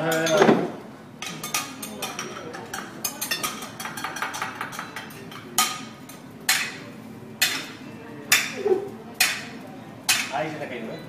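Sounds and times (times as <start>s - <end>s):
metal utensils striking griddle: 0.0s - 0.6s, 1.2s - 10.4s.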